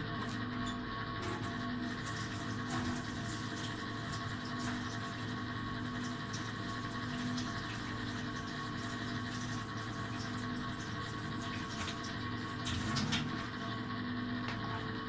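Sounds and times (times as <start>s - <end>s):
water running from a tap: 1.3s - 13.9s.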